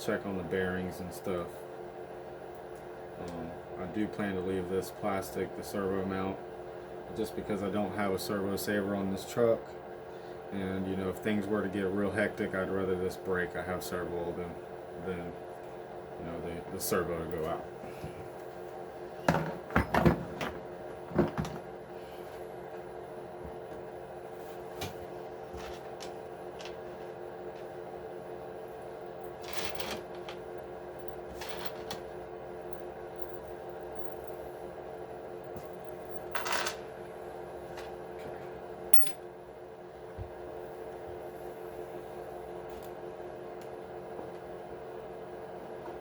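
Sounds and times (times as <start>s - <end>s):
steady hum: 0.0s - 46.0s.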